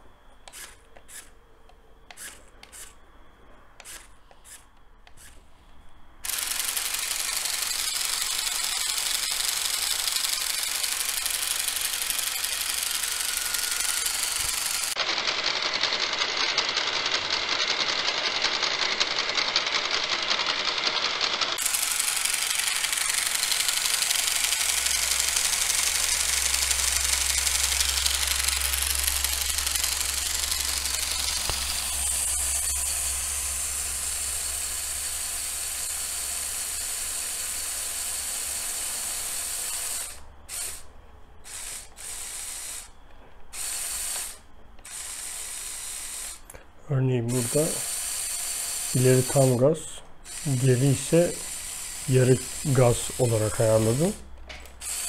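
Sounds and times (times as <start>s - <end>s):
electric motors whirring: 0.0s - 3.0s, 3.8s - 5.4s, 6.2s - 43.0s, 43.6s - 46.6s, 47.3s - 55.0s.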